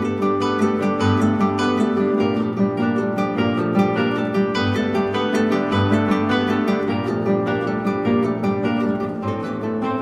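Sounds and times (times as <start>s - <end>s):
plucked string instrument music: 0.0s - 10.0s.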